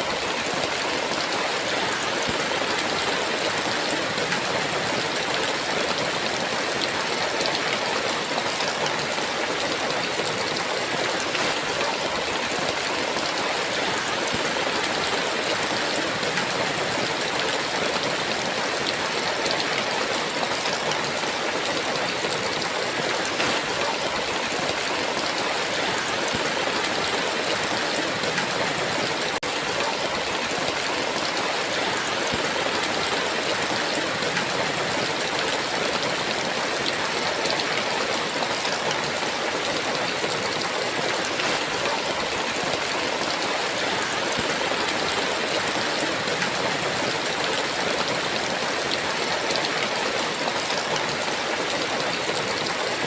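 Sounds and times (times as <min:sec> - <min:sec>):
heavy rain downpour: 0:00.0 - 0:53.0.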